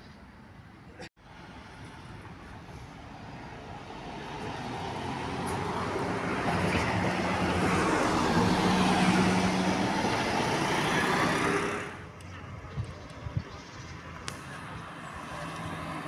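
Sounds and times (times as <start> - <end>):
bus engine and tyre noise: 0.0 - 16.0.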